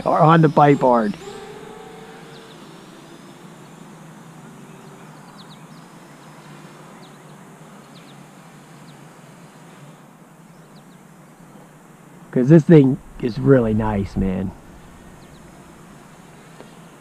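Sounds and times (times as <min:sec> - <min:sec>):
faint hum: 0:00.0 - 0:17.0
small birds chirping: 0:00.0 - 0:17.0
steady soft hiss: 0:00.0 - 0:17.0.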